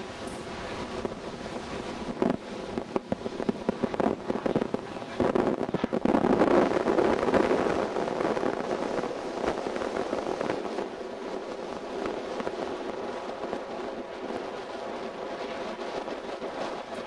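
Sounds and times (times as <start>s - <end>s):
distant boat engine drone: 0.0s - 17.0s.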